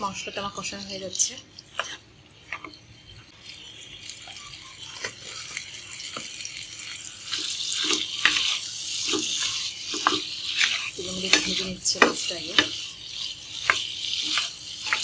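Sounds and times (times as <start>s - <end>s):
fish sizzling in oil: 0.0s - 15.0s
wooden spatula scraping a pan: 0.0s - 15.0s.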